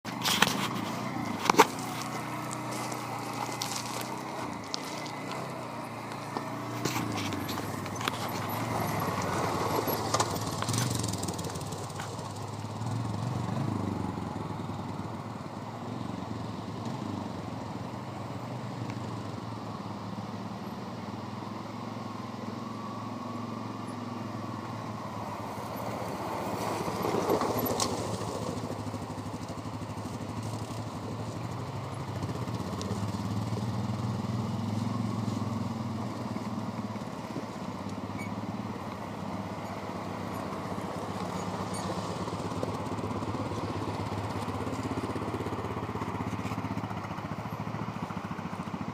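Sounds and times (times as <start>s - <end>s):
atv engine running: 0.1s - 48.9s.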